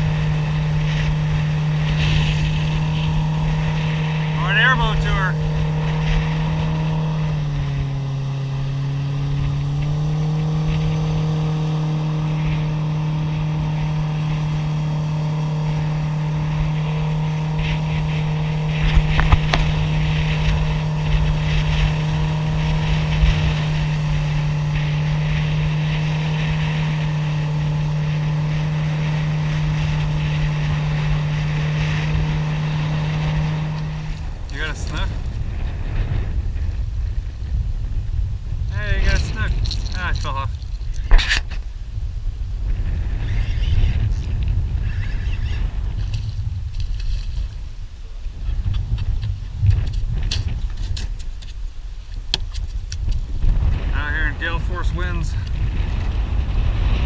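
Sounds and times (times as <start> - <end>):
boat outboard motor running: 0.0 - 57.0.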